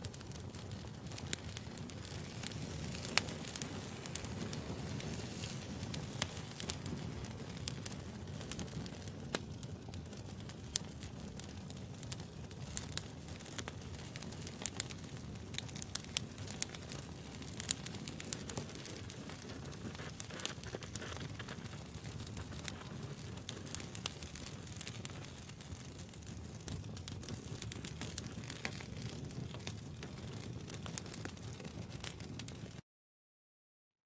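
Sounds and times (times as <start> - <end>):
fire crackling and popping: 0.0 - 32.8
flames hissing and rumbling: 0.0 - 32.8.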